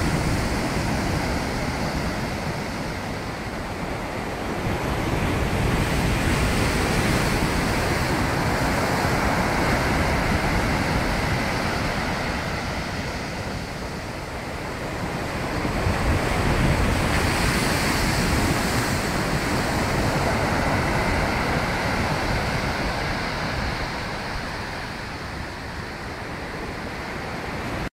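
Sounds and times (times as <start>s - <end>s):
sea surf breaking: 0.0s - 27.9s
wind buffeting microphone: 0.0s - 27.9s.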